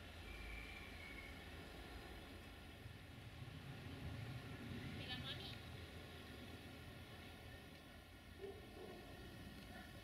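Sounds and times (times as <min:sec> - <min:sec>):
electric freight train rumble: 0:00.0 - 0:09.6.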